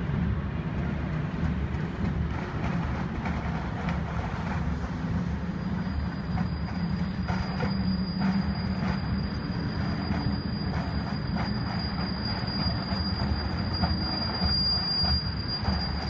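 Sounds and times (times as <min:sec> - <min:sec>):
train cars rumbling past: 0:00.0 - 0:16.0
high wheel squeal: 0:02.6 - 0:16.0.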